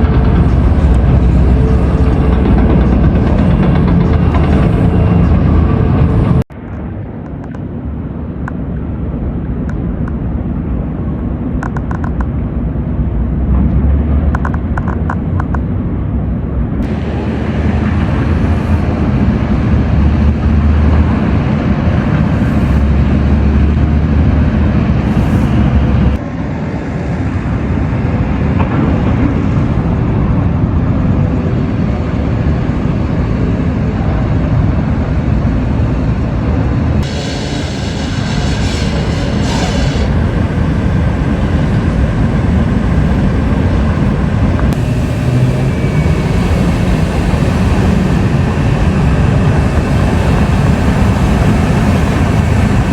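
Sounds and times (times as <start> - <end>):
low rumble of vehicle noise: 0.0 - 52.9.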